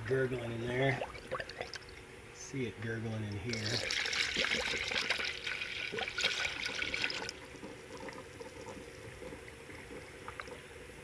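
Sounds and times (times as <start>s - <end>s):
bubbling in funnel: 0.7s - 2.1s, 3.3s - 11.0s
liquid pouring and gurgling: 0.8s - 2.1s, 3.4s - 11.0s.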